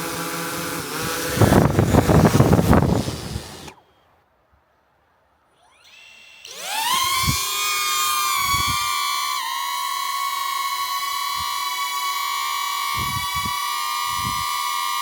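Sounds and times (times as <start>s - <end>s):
drone propeller motors whining: 0.0s - 3.8s, 5.6s - 15.0s.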